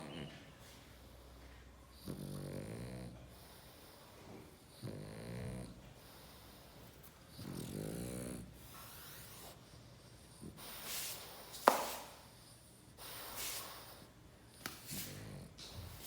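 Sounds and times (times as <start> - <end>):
dog snoring: 0.0 - 0.4, 1.9 - 11.5, 12.3 - 16.0.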